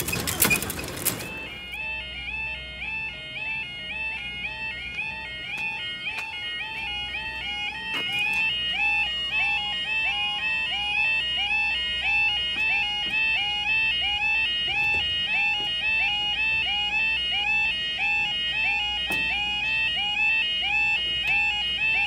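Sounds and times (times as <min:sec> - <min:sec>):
level crossing alarm two-tone wail: 0:00.0 - 0:22.0.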